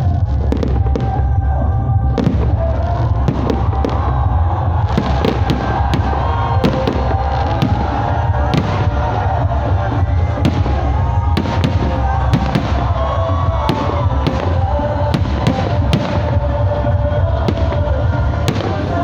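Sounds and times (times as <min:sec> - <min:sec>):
fireworks popping and crackling: 0:00.0 - 0:19.0
heavy low rumble: 0:00.0 - 0:19.0.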